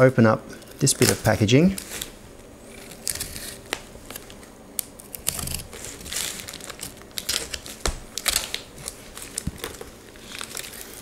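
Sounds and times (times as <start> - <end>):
cardboard packaging rustling: 0.8 - 11.0
plastic wrapping crinkling: 0.8 - 11.0.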